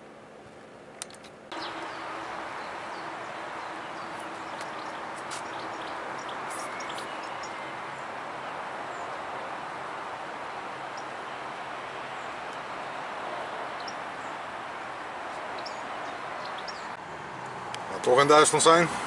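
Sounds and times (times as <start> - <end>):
birds chirping: 1.5 - 17.0
outdoor rushing noise: 1.5 - 19.0.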